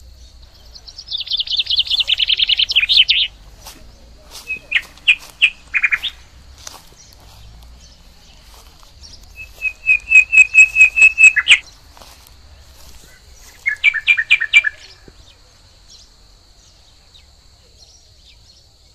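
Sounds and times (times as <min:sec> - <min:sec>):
bird high chirps: 0:00.2 - 0:18.5.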